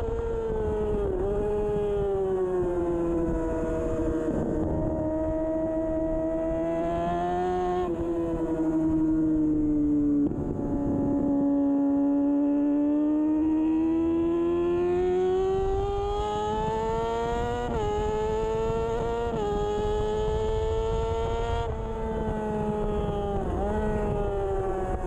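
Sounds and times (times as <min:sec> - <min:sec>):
motorcycle engine revving high: 0:00.0 - 0:25.0.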